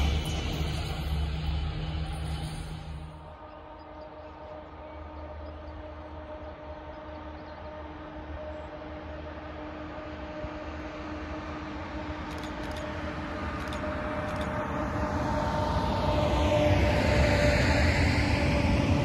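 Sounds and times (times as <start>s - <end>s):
locomotive droning hum: 0.0s - 19.0s
train low rumble: 0.0s - 19.0s.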